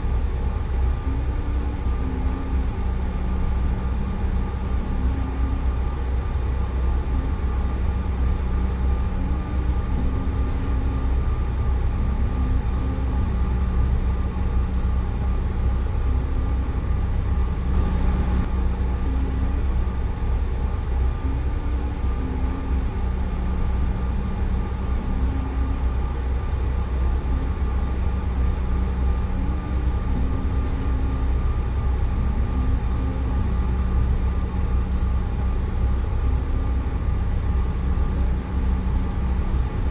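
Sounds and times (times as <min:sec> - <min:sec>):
jet cabin rumble and hum: 0:00.0 - 0:39.9
steady engine tones: 0:00.0 - 0:39.9.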